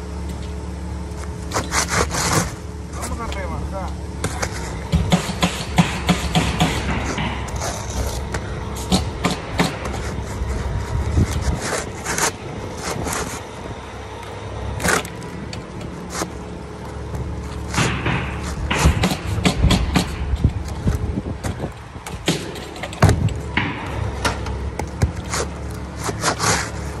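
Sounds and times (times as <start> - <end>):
steady low rumble: 0.0 - 27.0
scrapes on shingles: 1.2 - 3.6, 4.2 - 14.0, 14.7 - 23.4, 24.0 - 27.0.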